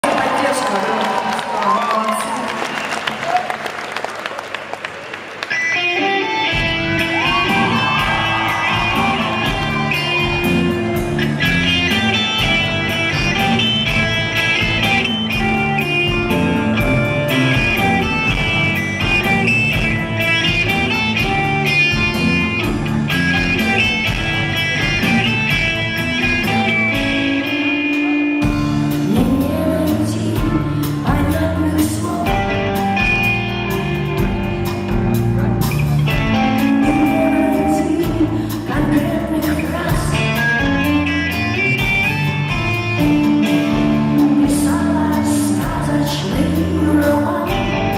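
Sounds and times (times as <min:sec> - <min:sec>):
electric guitar: 0:05.1 - 0:47.9
rock band playing live: 0:05.1 - 0:47.9.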